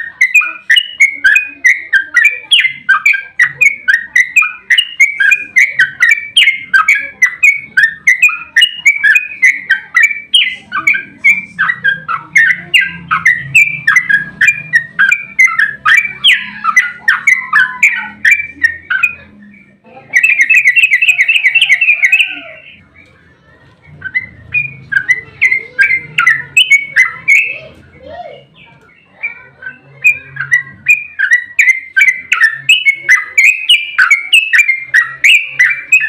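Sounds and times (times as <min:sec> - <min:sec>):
bird chattering song: 0:00.0 - 0:36.0.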